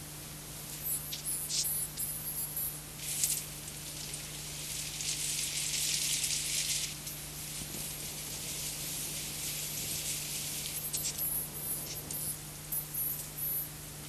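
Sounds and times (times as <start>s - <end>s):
high-pitched hiss and crackle: 0.0s - 14.0s
steady low hum: 0.0s - 14.0s.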